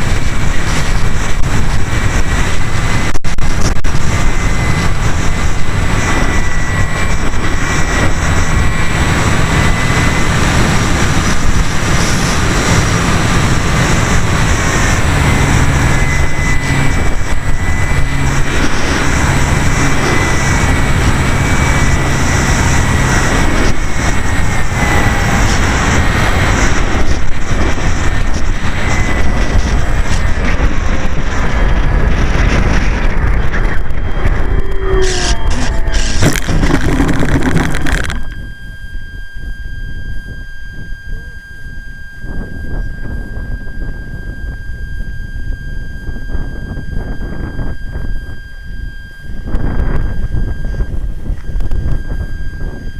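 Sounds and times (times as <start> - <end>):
electric motor whine: 0.0 - 52.9
wind rush: 0.0 - 52.9.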